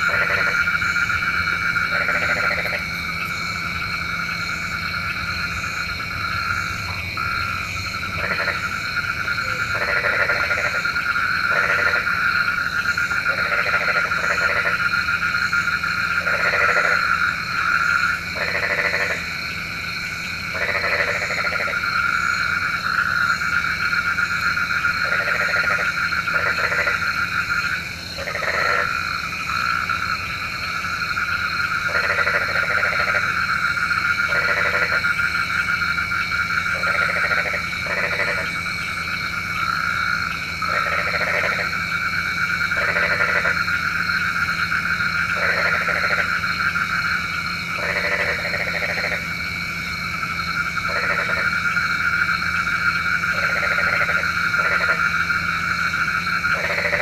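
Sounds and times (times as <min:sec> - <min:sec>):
frogs croaking: 0:00.0 - 0:57.0.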